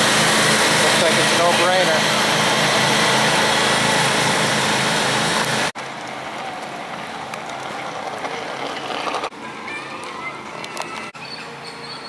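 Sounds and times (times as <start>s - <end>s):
riding lawn mower engines racing: 0.0s - 9.7s
outdoor background noise: 0.0s - 12.0s.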